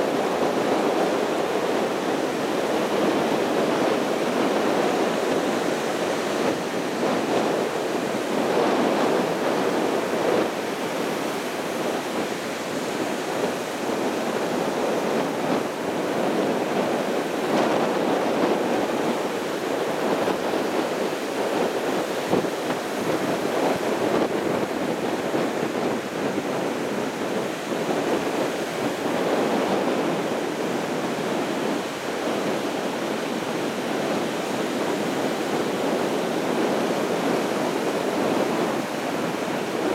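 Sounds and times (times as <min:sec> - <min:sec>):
sea surf breaking: 0:00.0 - 0:39.9.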